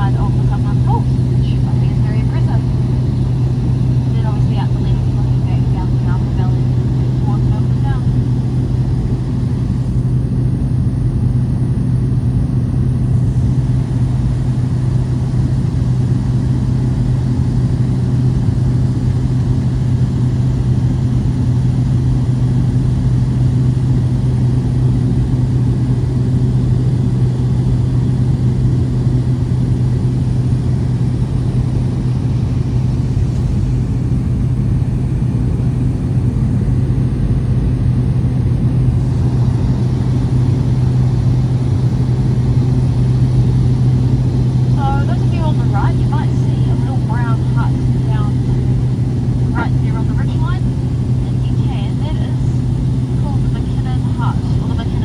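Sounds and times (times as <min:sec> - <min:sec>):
small plane engine droning: 0:00.0 - 0:55.0.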